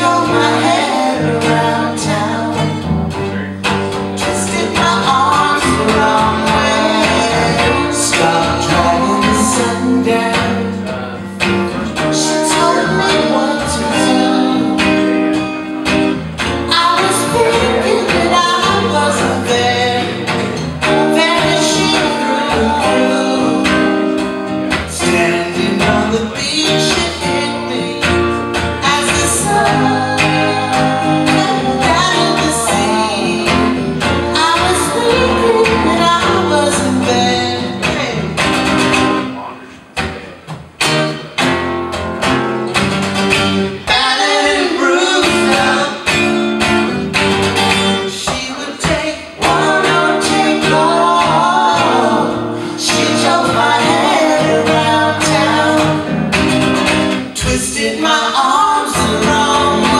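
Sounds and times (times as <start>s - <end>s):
person singing: 0.0s - 41.4s, 43.7s - 59.9s
live band music: 0.0s - 59.9s
strummed acoustic guitar: 0.0s - 59.9s.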